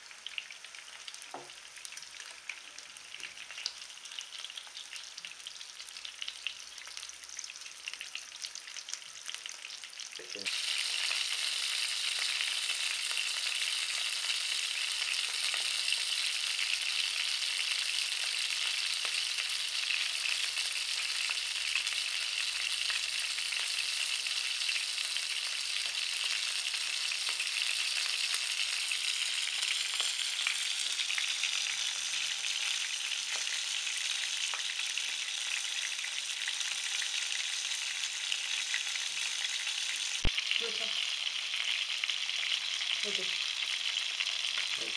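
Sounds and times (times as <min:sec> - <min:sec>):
sausages sizzling in frying pan: 0:00.0 - 0:44.9.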